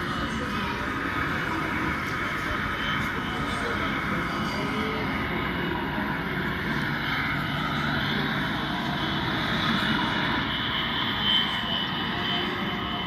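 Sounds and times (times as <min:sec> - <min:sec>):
faint high whine: 0:00.0 - 0:13.0
mechanical drone: 0:00.0 - 0:13.0.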